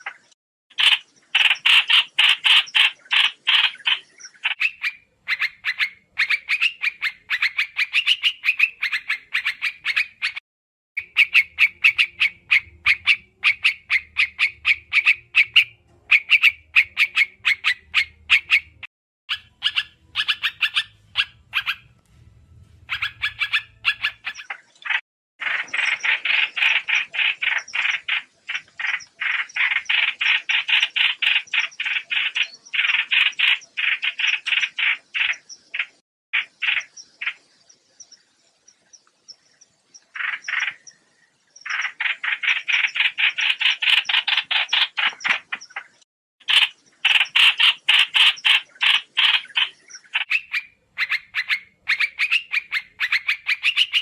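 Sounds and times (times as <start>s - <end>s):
bird chirping rapidly: 0.0s - 10.4s, 11.0s - 22.0s, 22.6s - 54.0s.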